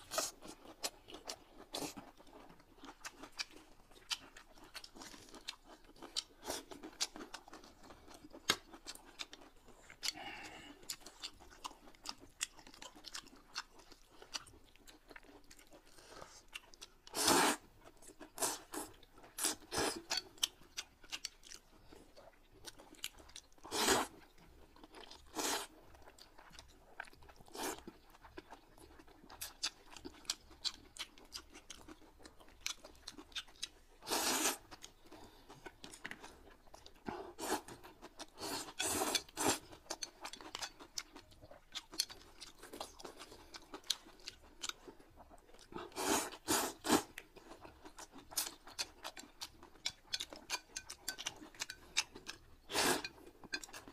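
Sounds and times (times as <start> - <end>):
people chewing: 0.0 - 53.9.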